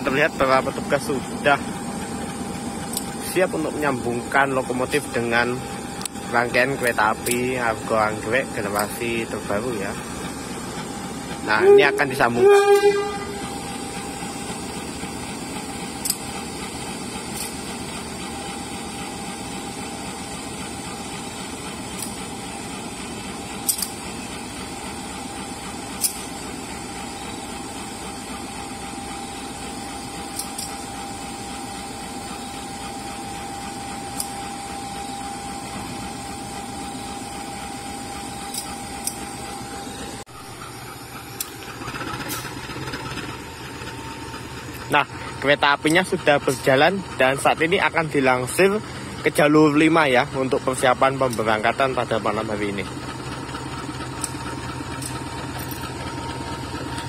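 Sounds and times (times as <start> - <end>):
diesel locomotive idling: 0.0 - 57.0
locomotive whine: 0.0 - 57.0.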